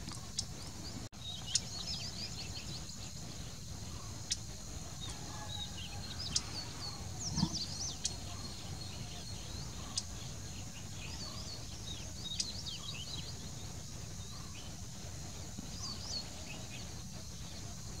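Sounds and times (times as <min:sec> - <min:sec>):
high insect hiss: 0:00.0 - 0:18.0
small birds chirping: 0:00.0 - 0:18.0.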